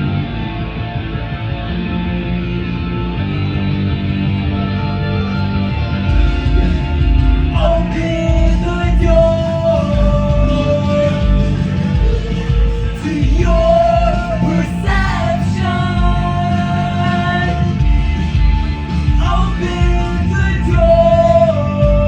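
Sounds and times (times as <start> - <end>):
loud music with heavy bass beat: 0.0 - 22.0.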